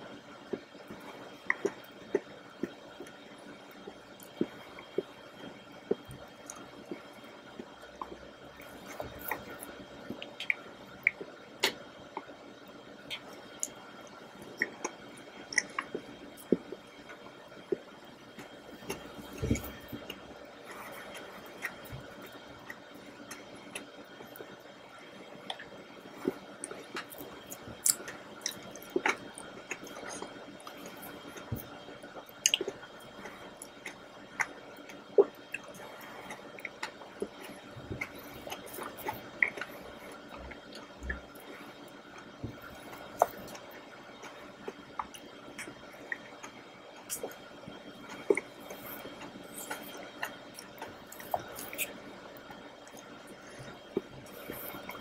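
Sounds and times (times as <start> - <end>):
faint steady hum: 0.0 - 55.0
soft chewing: 0.0 - 55.0.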